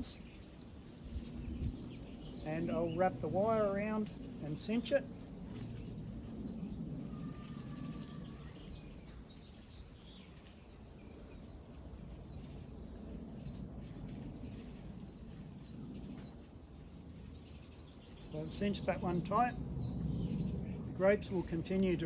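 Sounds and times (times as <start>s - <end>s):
low background rumble: 0.0s - 22.0s
small birds chirping: 0.0s - 22.0s.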